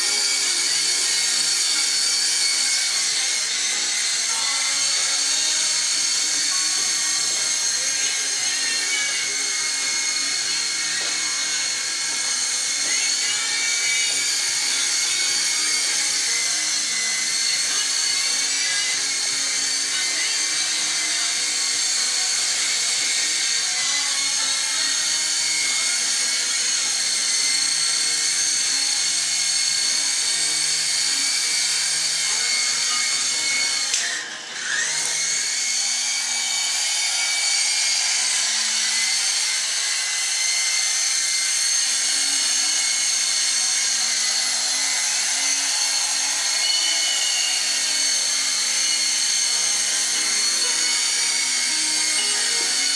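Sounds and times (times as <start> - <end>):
toy helicopter motors whining: 0.0 - 52.9.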